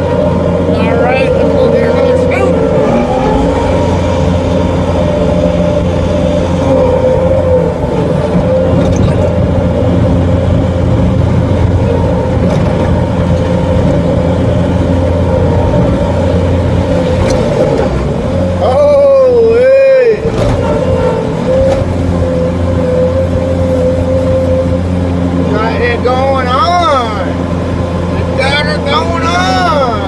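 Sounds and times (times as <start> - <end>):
high wavering whine: 0.0 - 30.0
loader engine running: 0.0 - 30.0.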